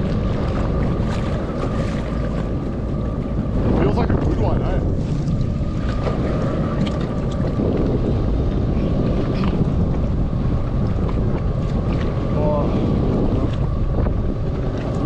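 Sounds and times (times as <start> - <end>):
steady low rumble: 0.0 - 15.0
water slapping against jet ski: 0.0 - 15.0
wind buffeting microphone: 0.0 - 15.0.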